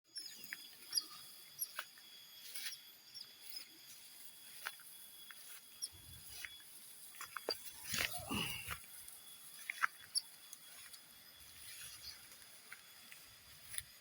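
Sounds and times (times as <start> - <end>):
high insect tones: 0.1 - 14.0.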